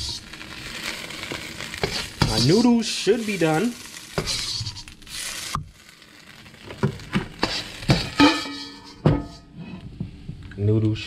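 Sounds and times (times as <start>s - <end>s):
food sizzling in a wok: 0.0s - 9.8s.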